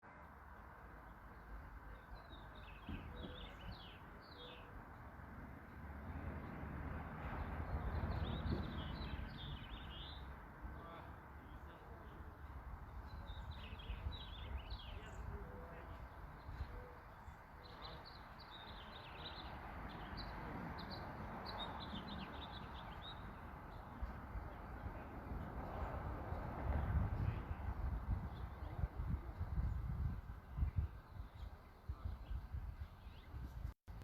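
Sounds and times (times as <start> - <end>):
songbirds chirping: 0.1 - 34.0.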